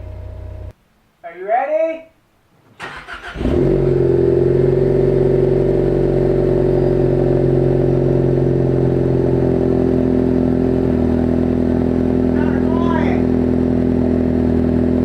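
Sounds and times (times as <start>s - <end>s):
car engine droning: 0.0s - 0.7s, 2.8s - 15.0s.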